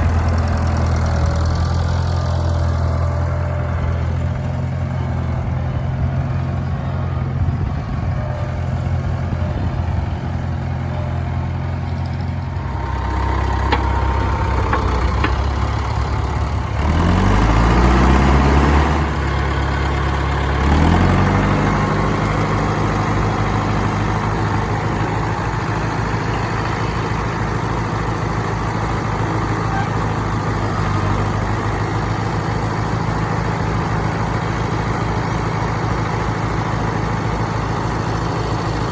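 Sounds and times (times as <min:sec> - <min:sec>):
tractor engine idling and revving: 0:00.0 - 0:38.9.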